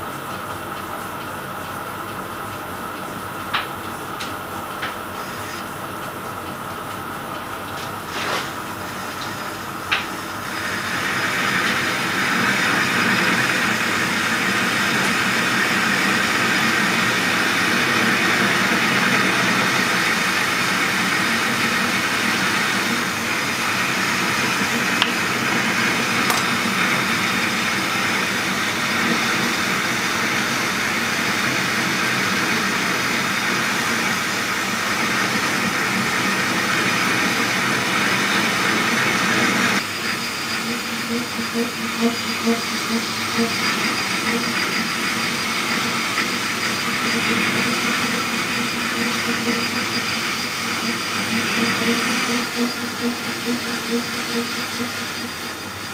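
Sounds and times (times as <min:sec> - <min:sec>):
metal lathe cutting: 0:10.4 - 0:42.0, 0:42.6 - 0:55.9.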